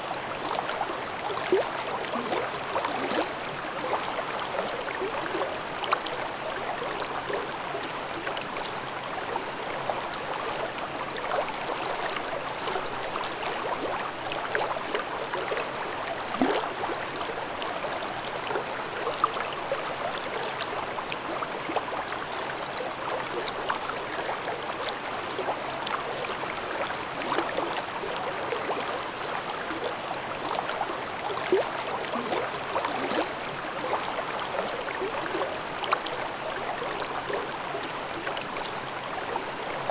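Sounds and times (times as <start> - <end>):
stream babbling: 0.3 - 39.9.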